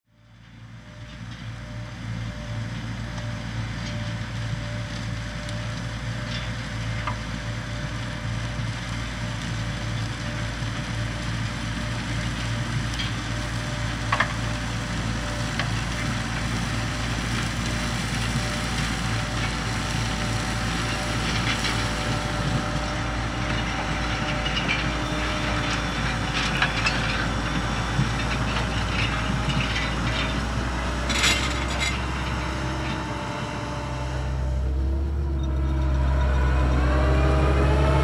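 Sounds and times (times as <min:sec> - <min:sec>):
harvester machinery drone: 0:00.1 - 0:38.0.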